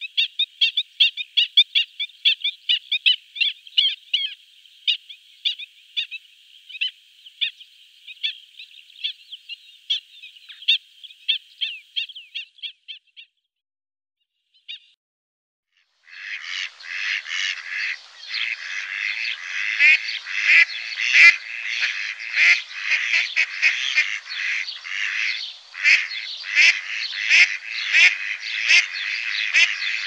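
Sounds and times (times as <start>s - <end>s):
birds calling: 0.0s - 13.5s, 16.0s - 30.0s.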